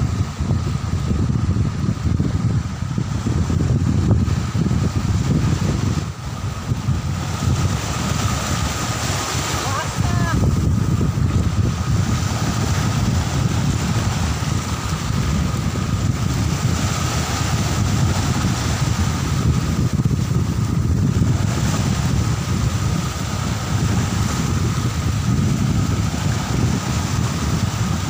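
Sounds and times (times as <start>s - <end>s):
surf washing in: 0.0s - 28.0s
wind buffeting microphone: 0.0s - 28.0s.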